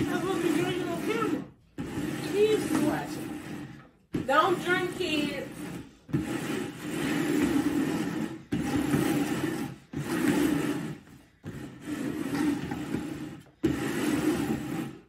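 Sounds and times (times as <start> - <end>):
plastic bowls scraping on table: 0.0 - 15.0.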